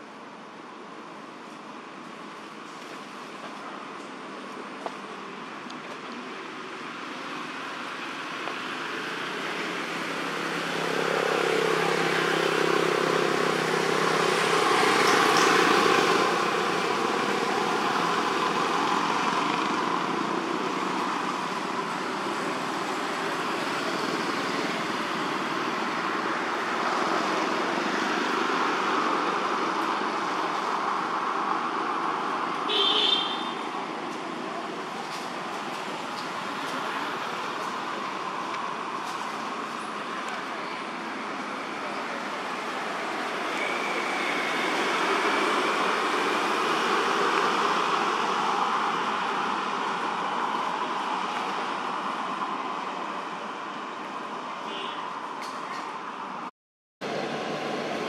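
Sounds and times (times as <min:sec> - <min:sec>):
motor vehicle noise: 0:00.0 - 0:58.0.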